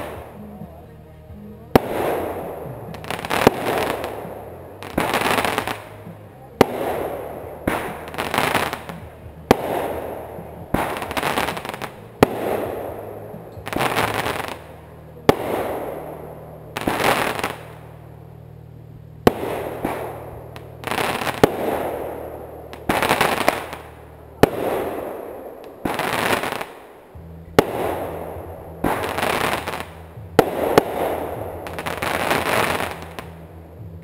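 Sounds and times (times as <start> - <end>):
fireworks bangs: 0.0 - 33.6.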